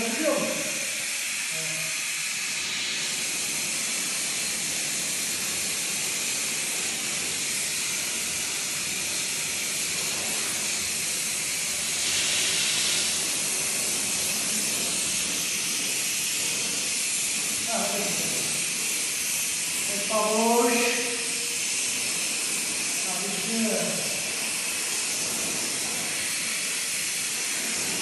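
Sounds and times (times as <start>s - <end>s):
gas hissing: 0.0s - 28.0s.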